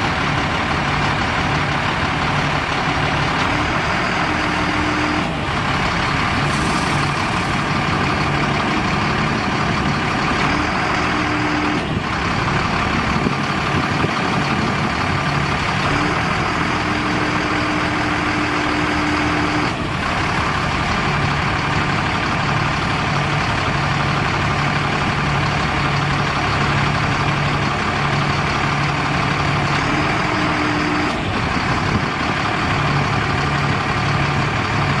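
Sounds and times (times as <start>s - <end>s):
diesel truck engine idling: 0.0s - 35.0s.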